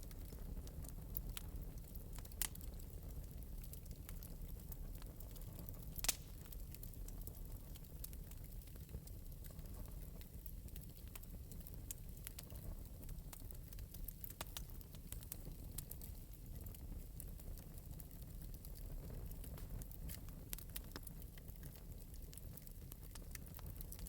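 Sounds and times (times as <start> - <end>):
fire popping: 0.0 - 24.0
low fire rumble: 0.0 - 24.0
wood fire crackling: 0.0 - 24.0.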